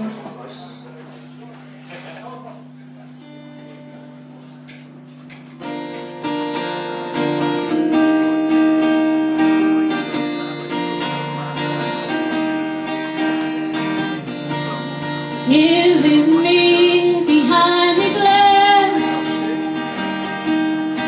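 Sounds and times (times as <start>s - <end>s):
acoustic guitar chords: 2.6s - 21.0s.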